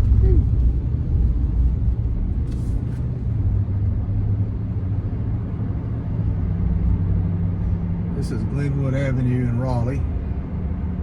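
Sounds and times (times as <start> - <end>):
truck engine rumble inside cab: 0.0 - 11.0.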